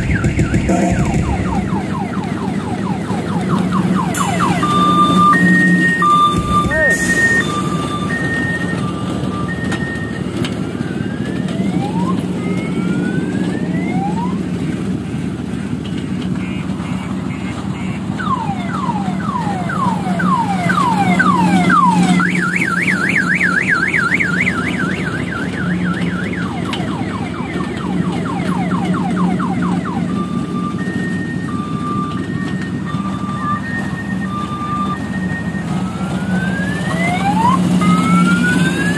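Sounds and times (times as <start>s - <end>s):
electronic siren whoops and sweeps: 0.0s - 15.1s, 16.6s - 38.9s
ride machinery humming: 0.0s - 38.9s.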